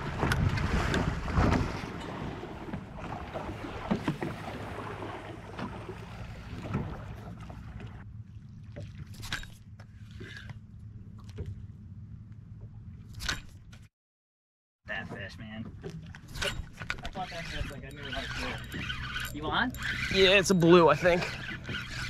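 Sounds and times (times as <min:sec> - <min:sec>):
water rushing along hull: 0:00.0 - 0:12.0, 0:15.0 - 0:22.0
boat motor humming: 0:00.0 - 0:13.1, 0:15.1 - 0:22.0.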